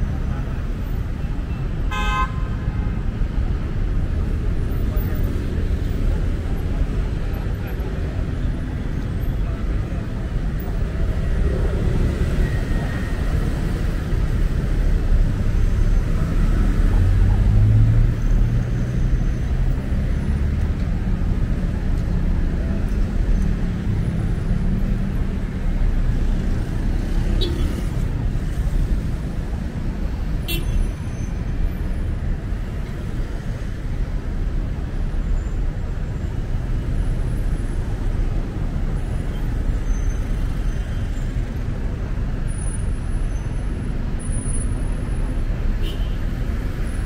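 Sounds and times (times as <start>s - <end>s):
road traffic passing: 0.0s - 47.0s.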